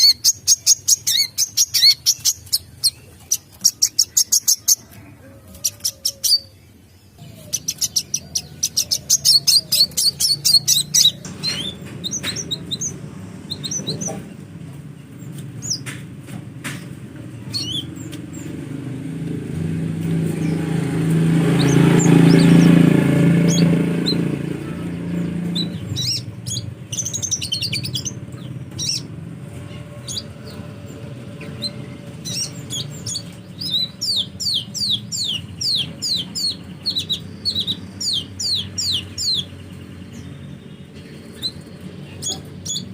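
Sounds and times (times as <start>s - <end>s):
bird chirping: 0.0s - 42.9s
low rumbling noise: 6.6s - 42.9s.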